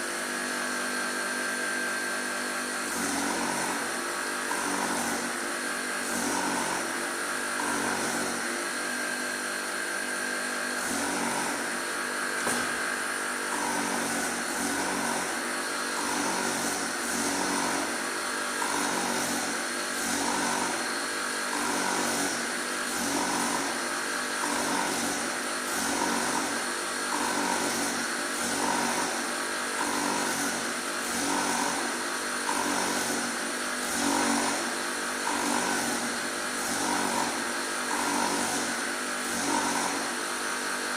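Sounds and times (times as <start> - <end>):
grinding machine whine: 0.0 - 40.9.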